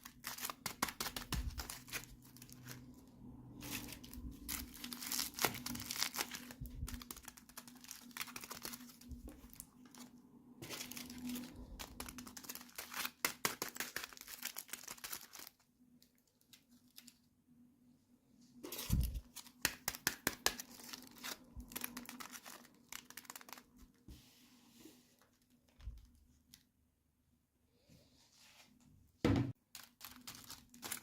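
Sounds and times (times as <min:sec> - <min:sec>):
plastic and paper crinkling: 0:00.0 - 0:17.3, 0:18.6 - 0:24.1, 0:25.0 - 0:26.7, 0:29.6 - 0:31.0.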